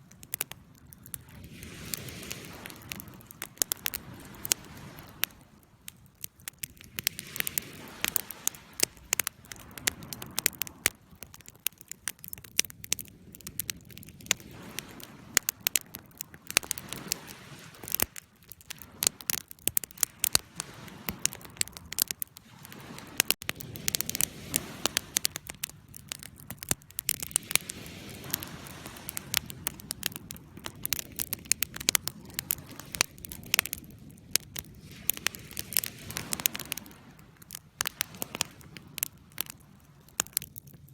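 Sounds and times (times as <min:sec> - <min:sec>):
campfire crackling and popping: 0:00.0 - 0:40.9
low rush of flame: 0:00.0 - 0:40.9.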